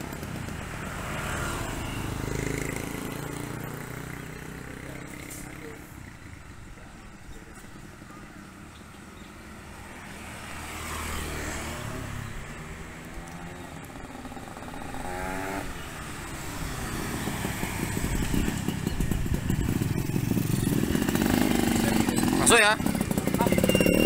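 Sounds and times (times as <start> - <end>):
motorbikes passing: 0.0 - 24.0
two-stroke moped approaching: 0.0 - 24.0.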